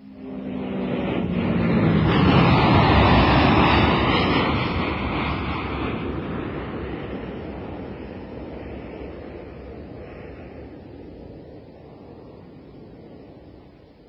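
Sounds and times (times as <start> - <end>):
fighter jet rushing noise: 0.0 - 11.5.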